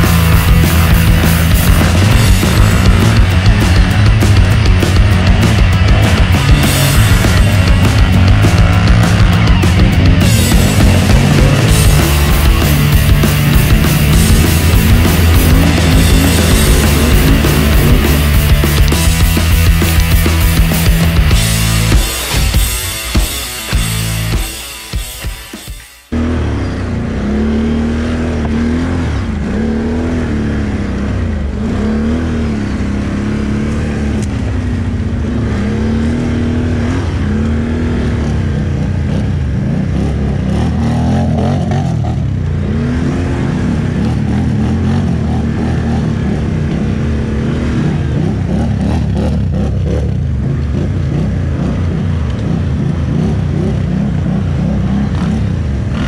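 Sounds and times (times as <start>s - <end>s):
atv engine revving: 0.0s - 24.6s, 26.1s - 56.0s.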